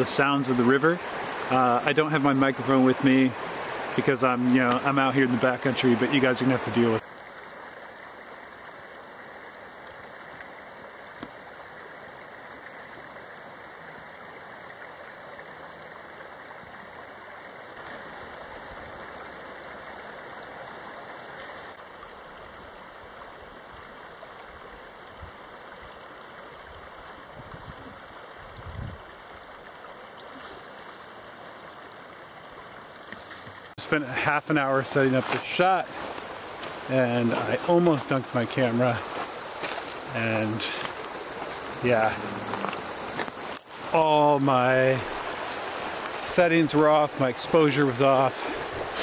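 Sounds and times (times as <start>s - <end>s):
river rushing: 0.0s - 23.6s, 29.0s - 49.0s.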